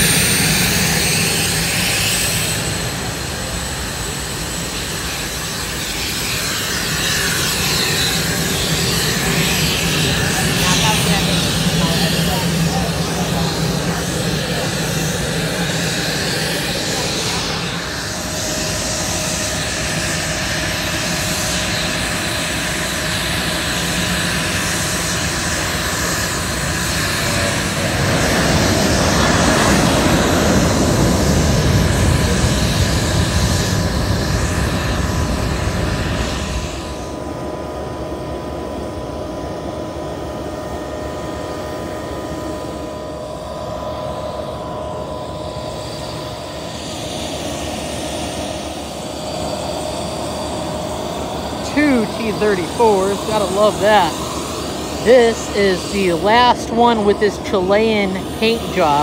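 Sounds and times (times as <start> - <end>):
airplane engine running: 0.0 - 59.0.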